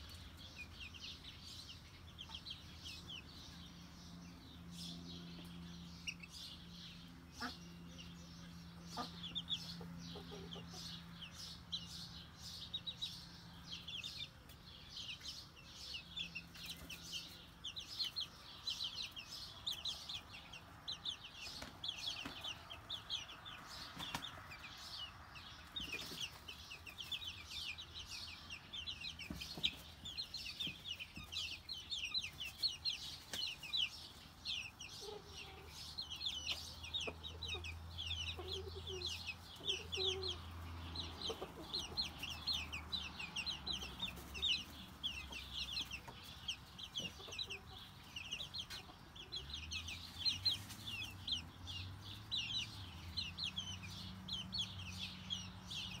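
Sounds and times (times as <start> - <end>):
baby chicks peeping: 0.0 - 56.0.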